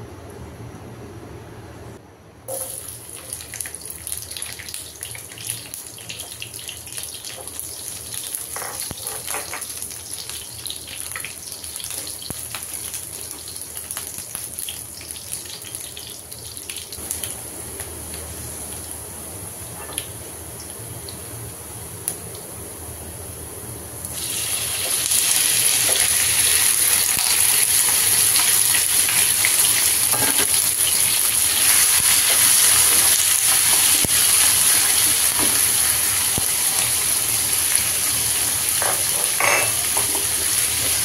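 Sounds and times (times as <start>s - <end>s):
aromatics sizzling in hot oil: 2.5s - 21.4s, 24.0s - 41.0s.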